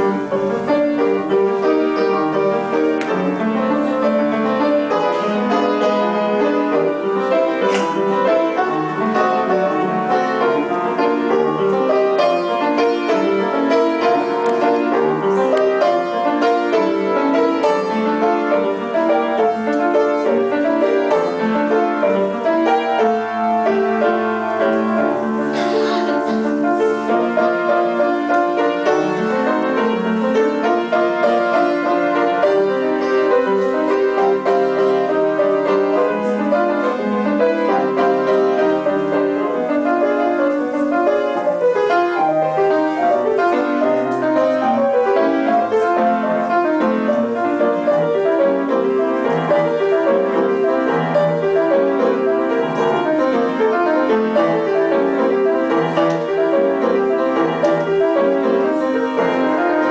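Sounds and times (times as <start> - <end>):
piano piece: 0.0 - 59.9.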